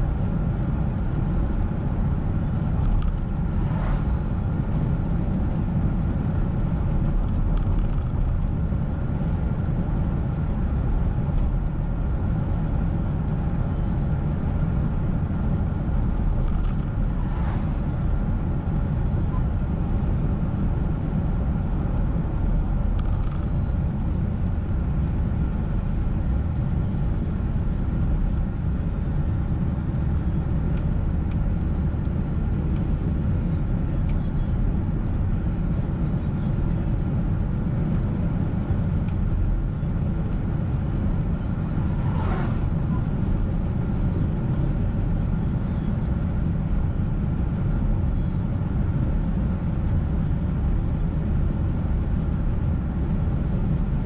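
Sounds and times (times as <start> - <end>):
car driving on wet road: 0.0 - 54.0.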